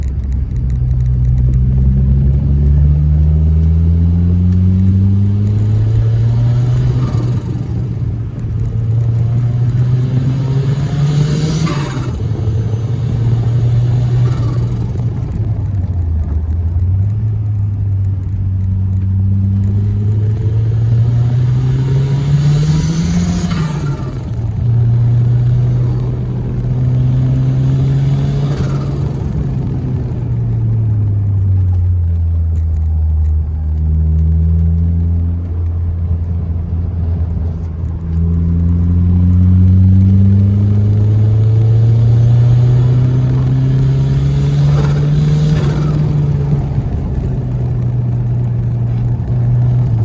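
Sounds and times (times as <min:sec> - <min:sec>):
turbocharged car engine revving: 0:00.0 - 0:50.0.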